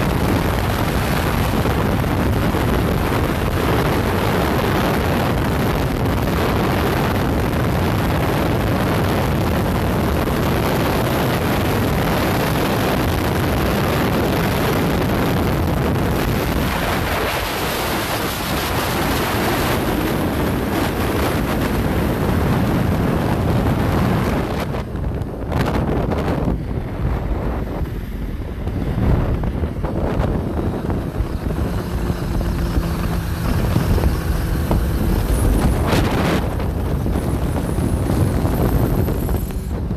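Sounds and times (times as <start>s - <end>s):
road and vehicle noise: 0.0s - 39.9s
wind rush on microphone: 0.0s - 39.9s.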